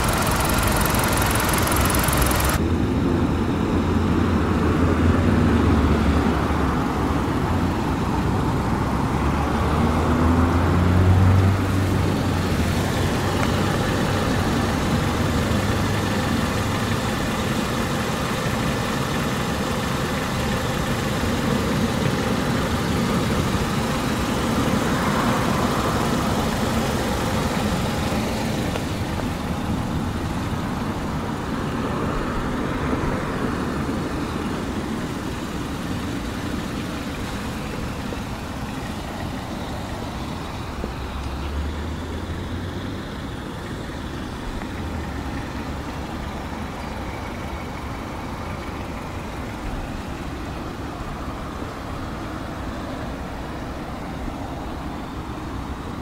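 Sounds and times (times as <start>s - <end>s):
car engine idling: 0.0s - 4.6s, 11.4s - 56.0s.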